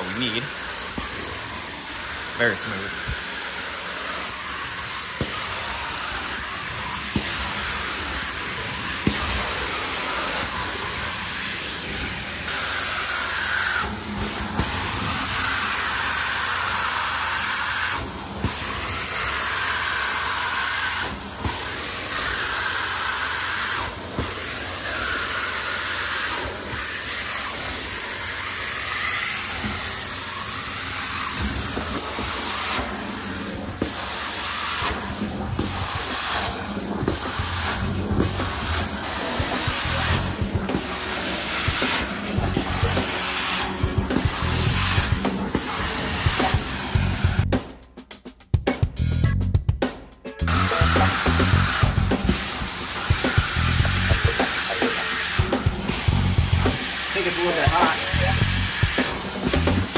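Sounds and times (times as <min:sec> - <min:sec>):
carpet cleaning wand hissing: 0:00.0 - 0:47.5, 0:50.4 - 0:59.9.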